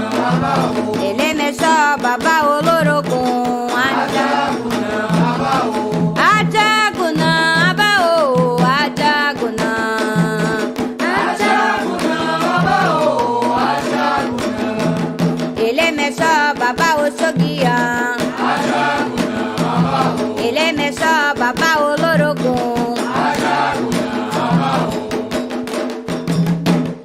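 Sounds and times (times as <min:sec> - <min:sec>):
voices singing a chant: 0:00.0 - 0:25.6
hand drums and percussion: 0:00.0 - 0:27.0.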